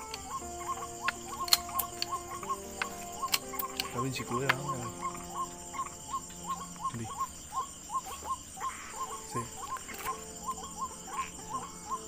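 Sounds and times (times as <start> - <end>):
high-pitched insect drone: 0.0 - 12.0
rising chirping calls: 0.0 - 12.0.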